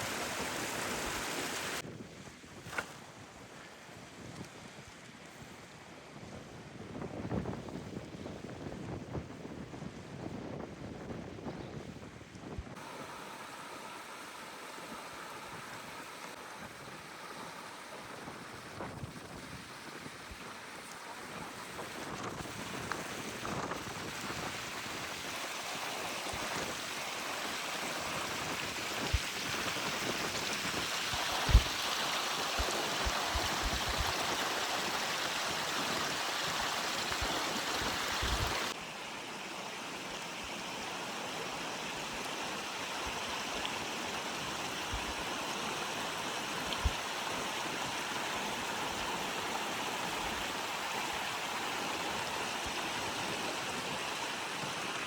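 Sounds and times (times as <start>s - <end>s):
running stream: 0.0s - 6.0s, 12.8s - 55.0s.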